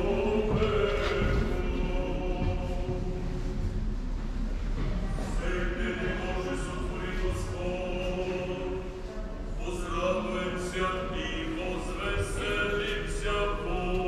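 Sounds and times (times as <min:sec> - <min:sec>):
choir chanting: 0:00.0 - 0:03.6, 0:05.2 - 0:14.0.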